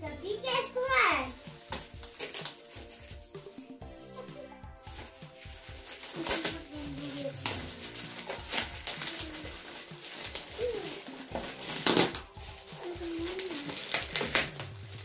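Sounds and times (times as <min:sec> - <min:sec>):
wrapping paper ripping: 0:00.4 - 0:15.0.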